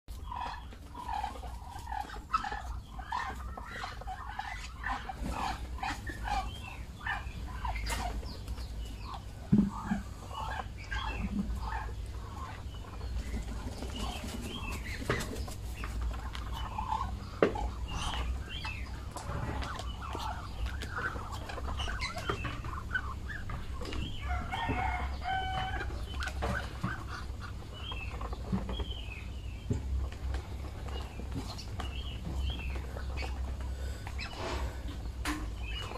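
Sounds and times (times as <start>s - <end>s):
bills pecking feed in plastic tray: 0.1s - 35.9s
poultry clucking: 0.1s - 35.9s.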